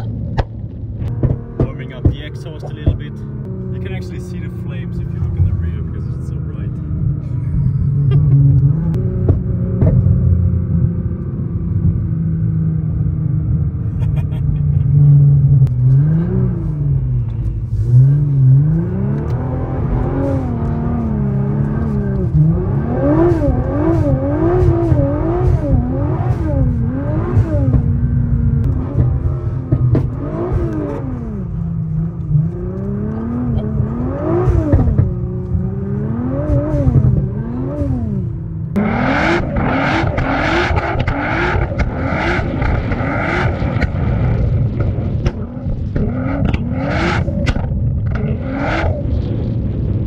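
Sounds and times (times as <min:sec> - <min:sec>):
car engine revving: 0:00.0 - 0:50.0
exhaust crackles: 0:00.0 - 0:50.0.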